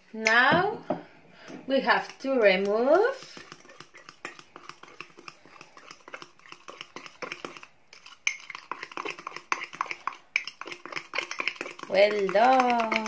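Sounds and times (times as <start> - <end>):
spoon stirring in ceramic mug: 1.8 - 13.0.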